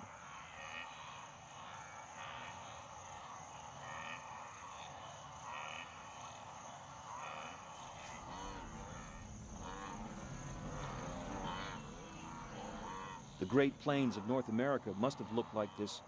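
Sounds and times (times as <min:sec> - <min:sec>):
high insect buzz: 0:00.0 - 0:16.0
wildebeest grunts: 0:00.3 - 0:16.0.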